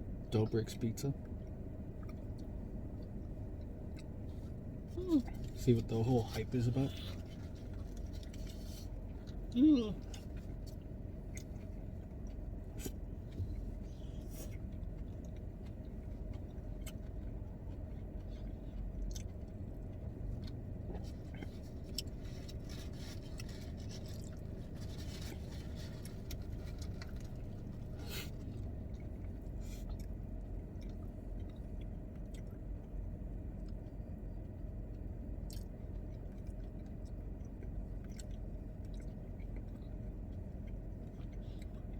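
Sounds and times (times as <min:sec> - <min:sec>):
steady low hum: 0:00.0 - 0:41.9
chewing and biting food: 0:01.2 - 0:41.9.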